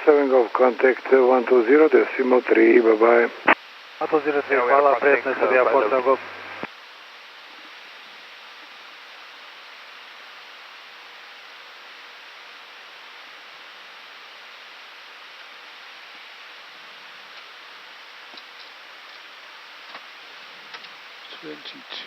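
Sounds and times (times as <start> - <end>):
cockpit airflow hiss: 0.0 - 10.2, 11.7 - 22.0.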